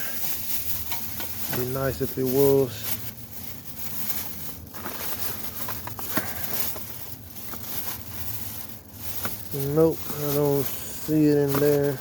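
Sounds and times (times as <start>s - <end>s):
items clicking and knocking: 0.0s - 3.1s, 3.9s - 12.0s
hands rummaging through bag: 0.0s - 12.0s.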